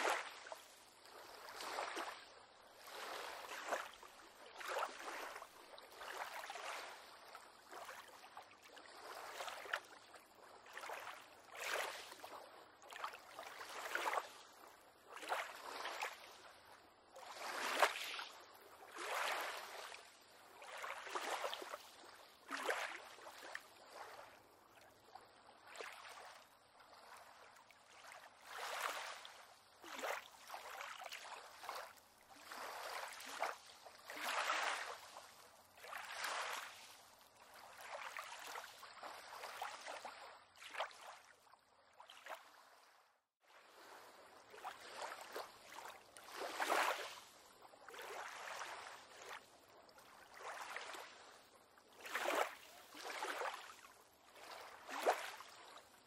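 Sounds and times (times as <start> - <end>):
small waves lapping against pier: 0.0 - 56.0.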